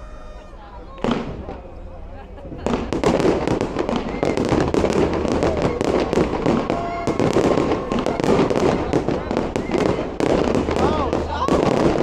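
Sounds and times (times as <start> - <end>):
fireworks bangs and crackles: 1.0 - 1.6, 2.5 - 12.0.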